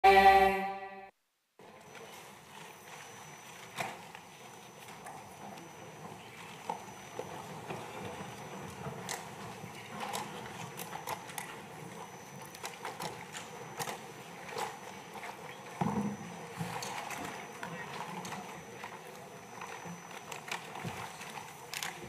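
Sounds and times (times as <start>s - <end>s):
low murmur of a chamber: 1.6s - 22.0s.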